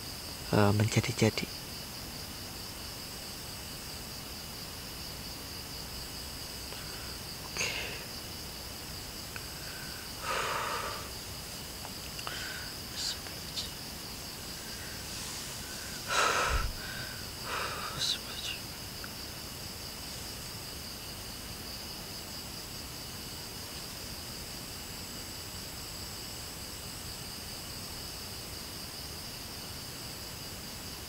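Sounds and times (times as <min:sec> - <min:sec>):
crickets and insects chirring: 0:00.0 - 0:31.0.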